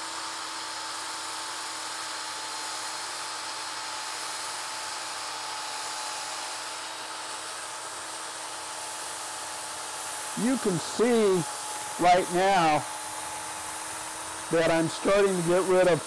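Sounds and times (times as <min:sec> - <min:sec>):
drill motor whine: 0:00.0 - 0:16.0
sanding disc hissing on wood: 0:00.0 - 0:16.0.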